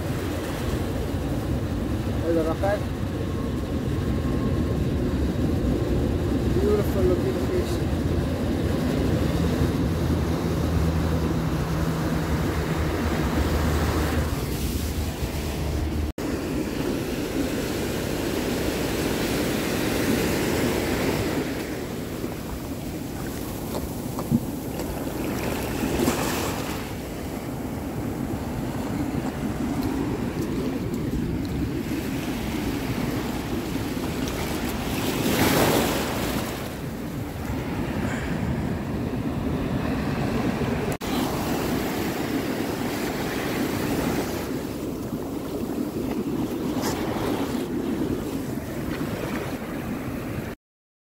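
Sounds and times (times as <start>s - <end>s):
surf washing over sand: 0.0s - 50.5s.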